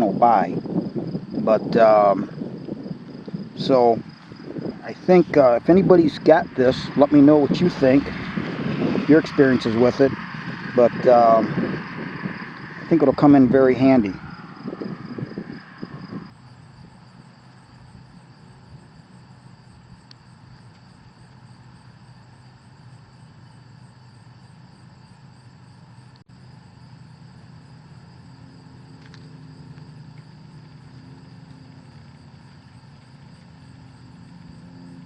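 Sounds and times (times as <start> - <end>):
insects chirping: 0.0 - 35.0
low steady rumble: 0.0 - 35.0.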